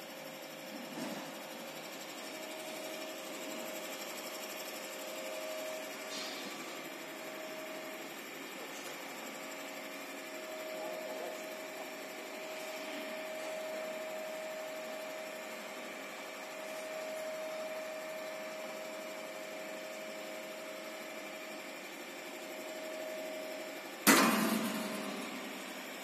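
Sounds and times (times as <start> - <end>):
machine hum with whine: 0.0 - 26.0.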